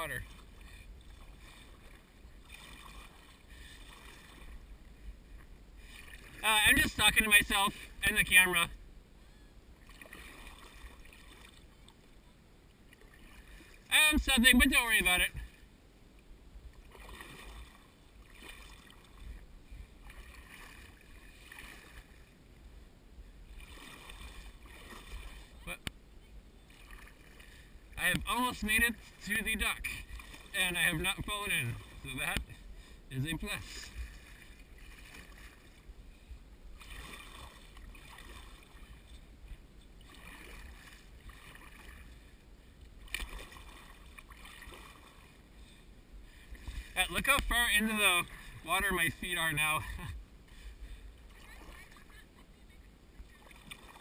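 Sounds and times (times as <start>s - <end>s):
paddle strokes in water: 0.0s - 8.4s, 9.2s - 15.7s, 16.7s - 22.5s, 23.3s - 26.0s, 26.6s - 54.0s.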